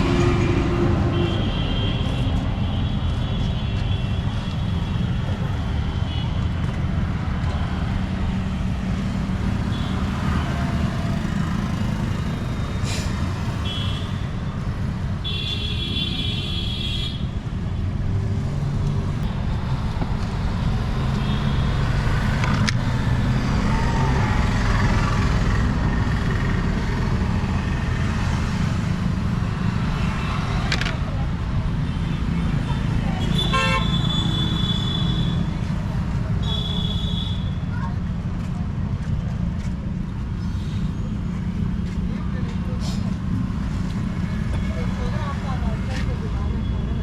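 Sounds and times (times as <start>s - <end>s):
traffic rumbling past: 0.0s - 47.0s.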